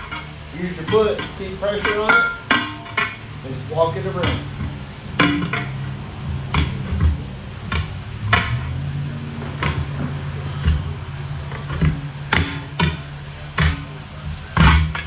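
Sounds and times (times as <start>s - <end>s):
tire bar knocking on wheel rim: 0.0s - 15.0s.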